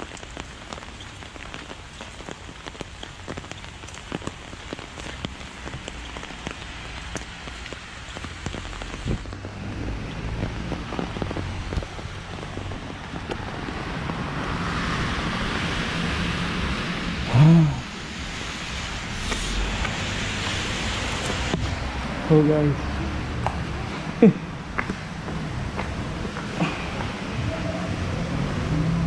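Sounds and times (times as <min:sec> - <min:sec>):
heavy rain on pavement: 0:00.0 - 0:29.0.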